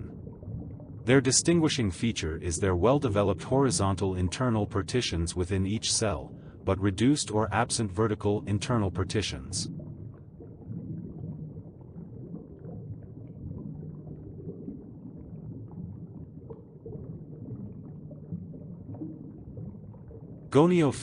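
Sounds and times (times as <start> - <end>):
low murky rumbling ambience: 0.0 - 21.0.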